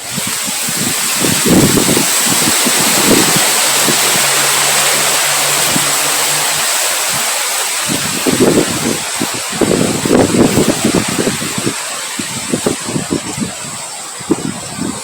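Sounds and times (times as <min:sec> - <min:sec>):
heavy rain hissing: 0:00.0 - 0:15.0
rumbling gusts of wind: 0:00.0 - 0:15.0.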